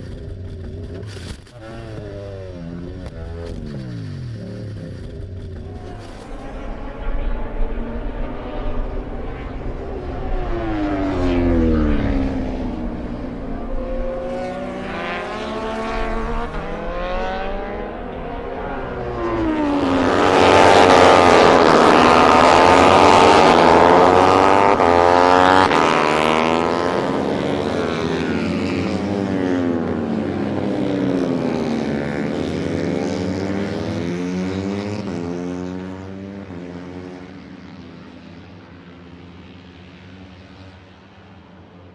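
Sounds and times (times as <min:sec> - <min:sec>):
racing motorcycles passing by: 0:00.0 - 0:41.9.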